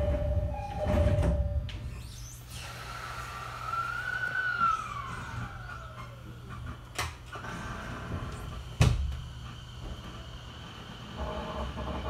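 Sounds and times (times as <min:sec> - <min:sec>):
electric train motor whine: 0:00.0 - 0:06.6, 0:07.4 - 0:12.0.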